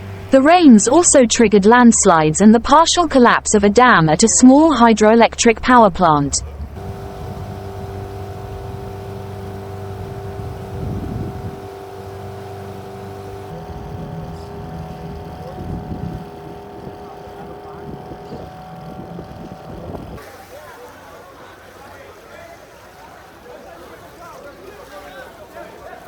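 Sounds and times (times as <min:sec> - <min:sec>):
small boat motor running: 0:00.0 - 0:26.0
people's voices: 0:00.3 - 0:26.0.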